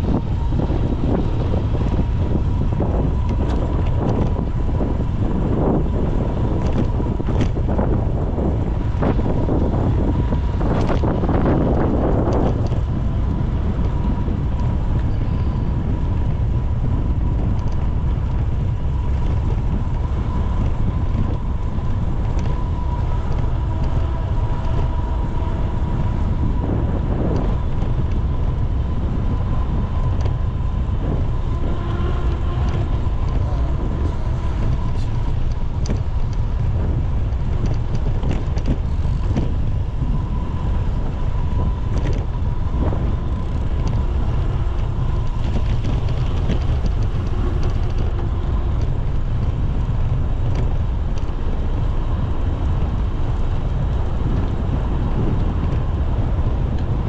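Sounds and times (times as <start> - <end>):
road noise: 0.0 - 57.0
wind on microphone: 0.0 - 57.0.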